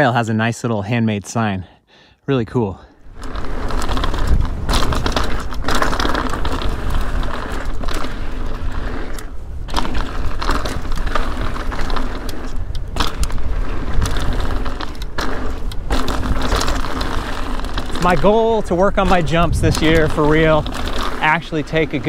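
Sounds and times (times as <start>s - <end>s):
bike chain rattling: 3.0s - 22.0s
tyres crunching over gravel: 3.0s - 22.0s
wind on microphone: 3.0s - 22.0s.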